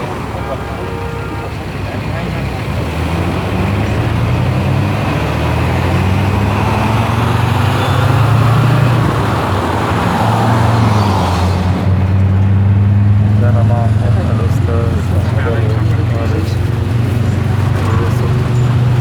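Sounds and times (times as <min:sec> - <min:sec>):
car engine hum: 0:00.0 - 0:19.0
tyre and road noise: 0:00.0 - 0:19.0.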